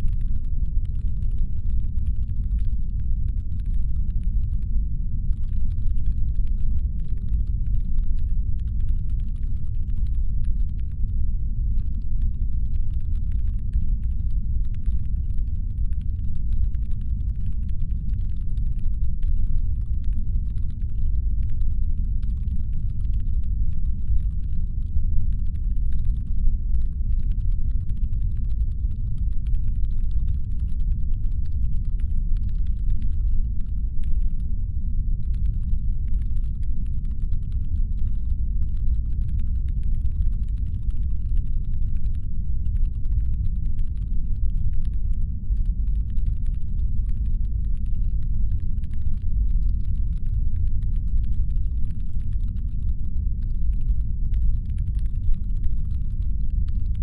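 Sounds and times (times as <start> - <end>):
deep rumble: 0.0 - 57.0
faint crackle of small clicks: 0.0 - 57.0.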